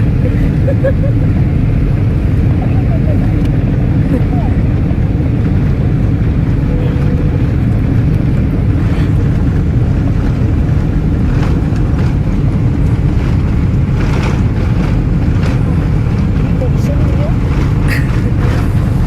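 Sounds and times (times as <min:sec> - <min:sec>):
jet engines rumbling in cabin: 0:00.0 - 0:19.0.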